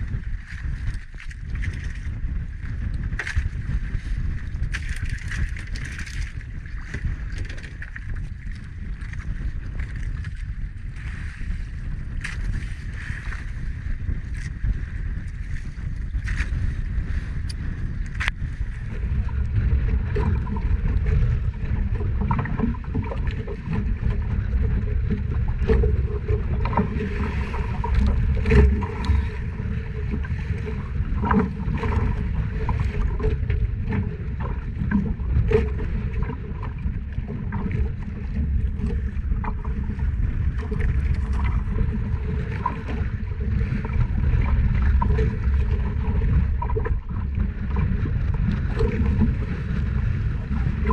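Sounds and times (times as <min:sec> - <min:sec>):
wind and water around hull: 0:00.0 - 0:50.9.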